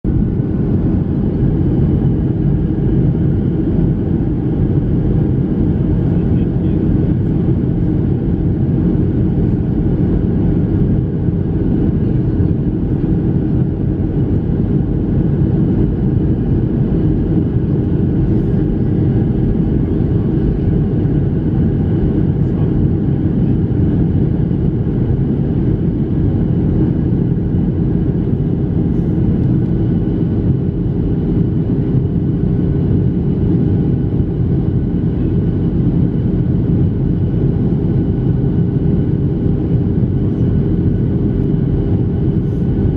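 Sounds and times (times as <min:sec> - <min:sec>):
jet engines humming: 0:00.1 - 0:42.9.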